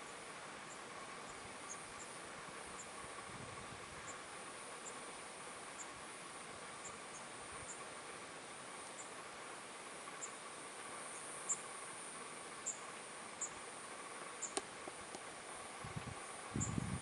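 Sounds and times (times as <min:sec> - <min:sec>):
open-air ambience hiss: 0:00.0 - 0:17.0.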